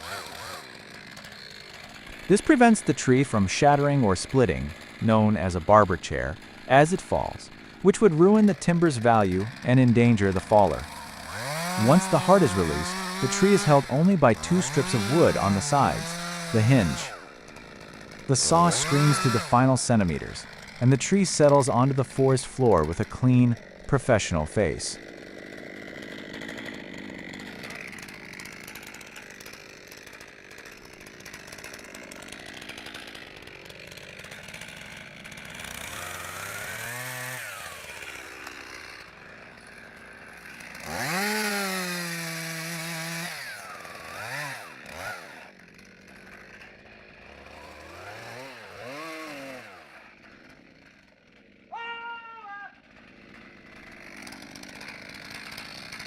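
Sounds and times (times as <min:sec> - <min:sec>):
chainsaw revving: 0:00.0 - 0:51.9, 0:52.5 - 0:56.0.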